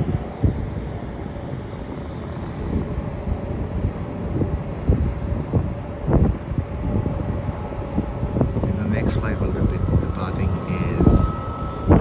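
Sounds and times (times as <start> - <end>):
distant jet aircraft hum: 0.0 - 12.0
wind buffeting microphone: 0.0 - 12.0.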